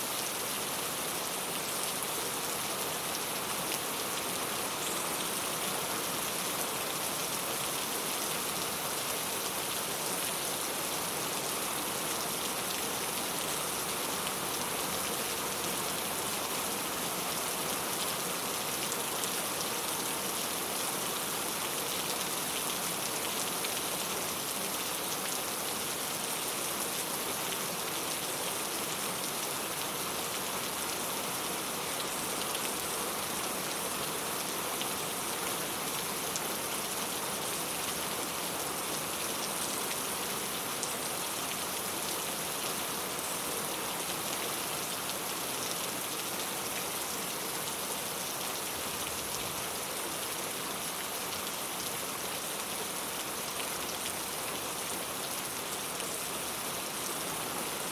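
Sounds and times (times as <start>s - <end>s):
rain on a tile roof: 0.0s - 57.9s.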